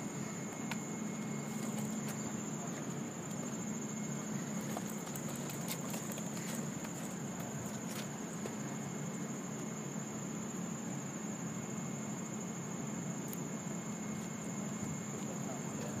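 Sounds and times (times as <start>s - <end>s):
crickets droning: 0.0s - 16.0s
low steady hum: 0.0s - 16.0s.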